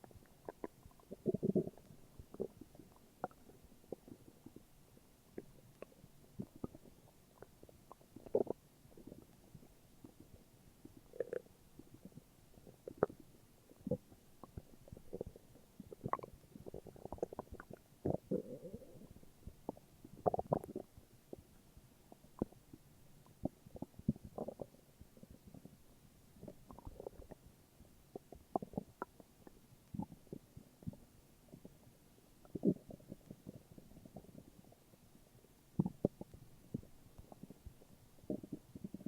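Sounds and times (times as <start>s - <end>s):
stomach growling: 0.0s - 4.7s, 5.3s - 25.8s, 26.4s - 39.0s.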